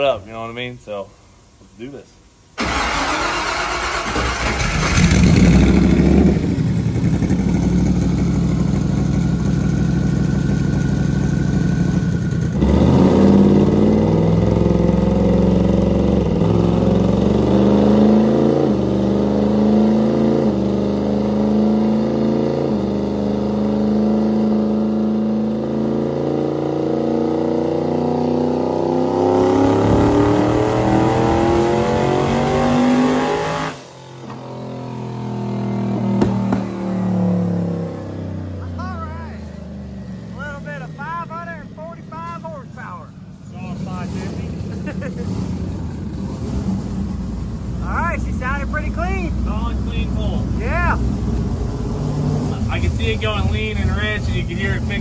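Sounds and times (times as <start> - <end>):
engine revving under load: 2.6 - 55.0.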